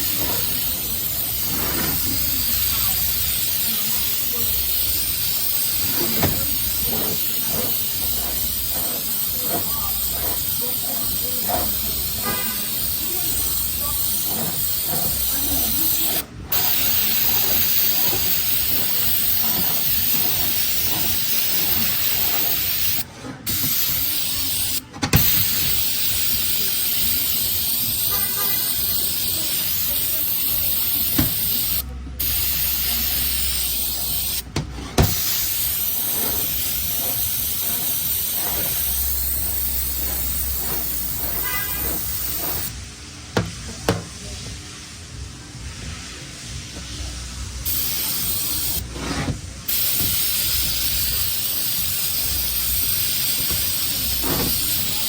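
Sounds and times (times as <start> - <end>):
aerosol spray hissing: 0.0 - 42.7, 47.6 - 49.1, 49.7 - 55.0.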